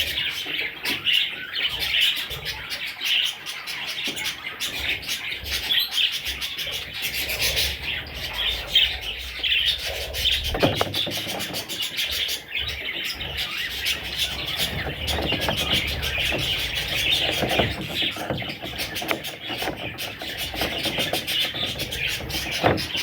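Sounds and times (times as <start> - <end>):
budgerigars chirping: 0.0 - 23.0.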